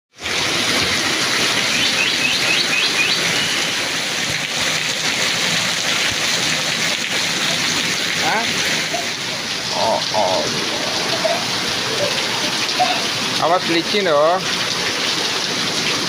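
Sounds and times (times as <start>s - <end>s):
heavy rain falling: 0.2s - 16.0s.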